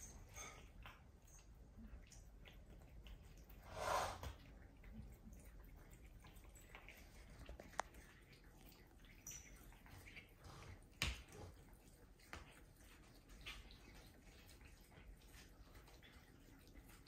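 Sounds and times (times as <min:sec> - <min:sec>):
cats chewing grass: 0:00.0 - 0:17.0.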